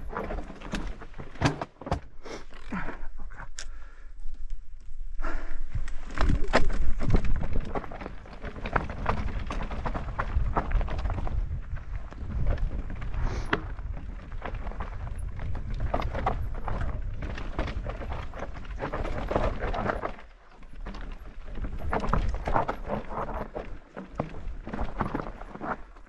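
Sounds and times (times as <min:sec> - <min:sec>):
mountain bike rattling over rocks: 0:00.0 - 0:02.0, 0:05.7 - 0:26.0.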